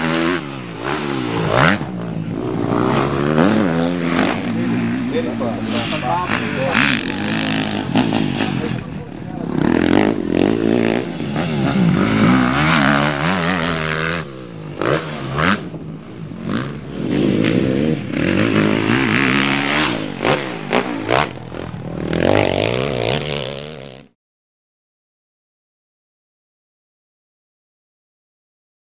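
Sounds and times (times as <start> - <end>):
dirt bike engine revving: 0.0 - 24.2.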